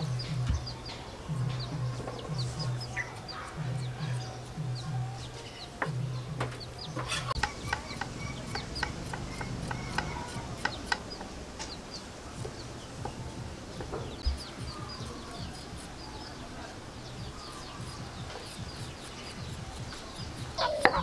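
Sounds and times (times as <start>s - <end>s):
chickens clucking: 0.0s - 21.0s
small birds chirping: 0.0s - 21.0s.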